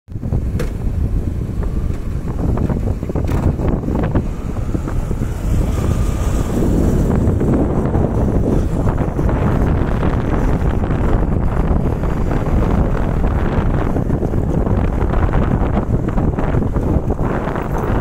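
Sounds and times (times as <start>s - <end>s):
tyre rumble on paved road: 0.1s - 18.0s
wind buffeting microphone: 0.1s - 18.0s.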